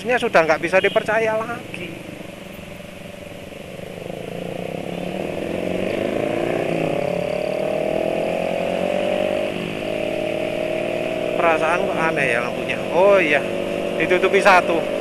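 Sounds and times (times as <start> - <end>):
road noise: 0.0 - 15.0
motorcycle engine accelerating: 1.4 - 15.0.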